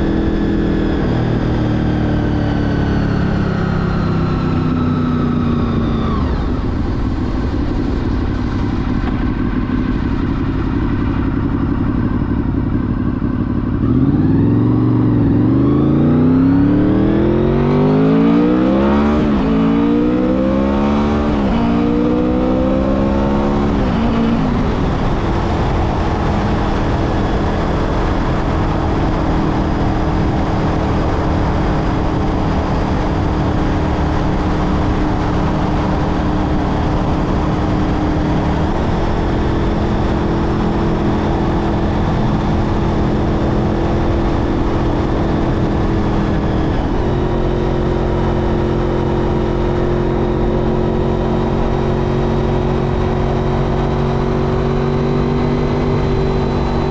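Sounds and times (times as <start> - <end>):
motorcycle engine cruising: 0.0 - 56.9.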